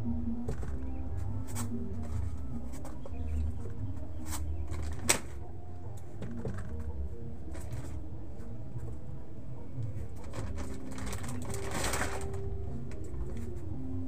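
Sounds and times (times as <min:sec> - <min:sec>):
plastic bottles and packets rustling: 0:00.4 - 0:09.0, 0:09.8 - 0:13.8.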